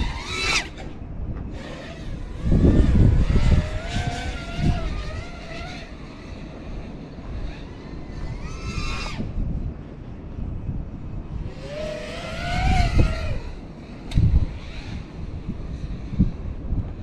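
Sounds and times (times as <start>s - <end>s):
drone motors whining: 0.0s - 17.0s
wind noise on microphone: 0.0s - 17.0s.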